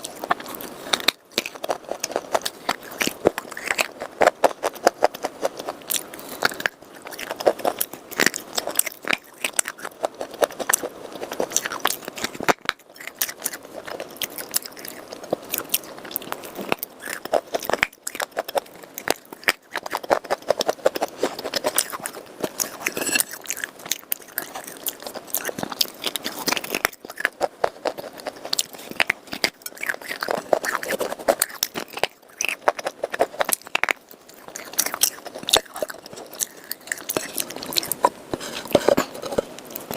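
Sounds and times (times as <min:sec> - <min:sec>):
person chewing hard clay: 0:00.0 - 0:39.9.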